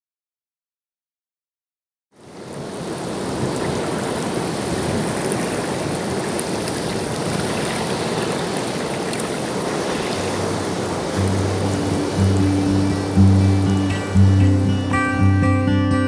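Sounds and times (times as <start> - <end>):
ocean surf rushing: 2.2 - 16.0.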